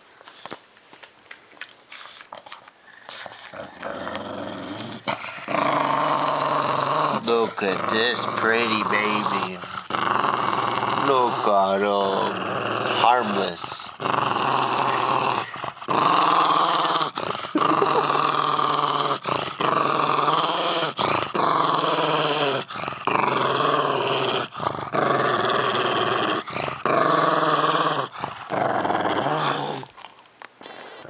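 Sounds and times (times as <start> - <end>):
dog growling: 2.4 - 31.0.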